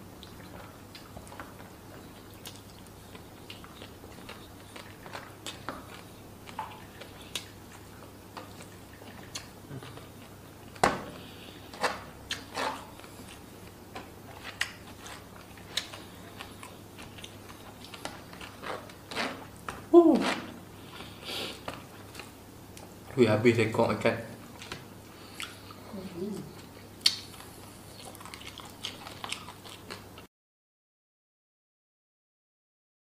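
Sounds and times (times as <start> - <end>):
man chewing and lip smacking: 0.1 - 23.0, 24.5 - 30.3.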